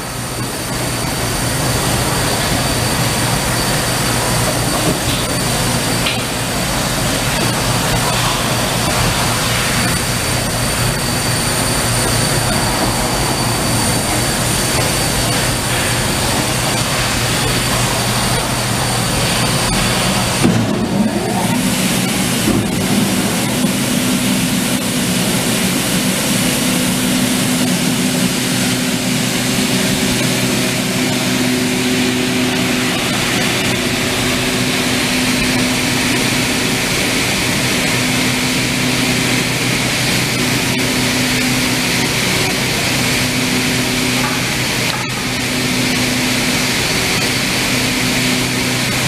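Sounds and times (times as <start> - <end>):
motors humming: 0.0 - 49.0.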